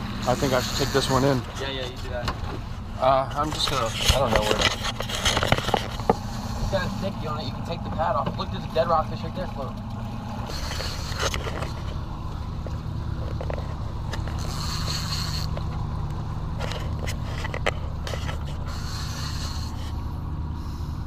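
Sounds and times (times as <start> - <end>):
outboard motor idling: 0.0 - 21.0
wind: 0.0 - 21.0.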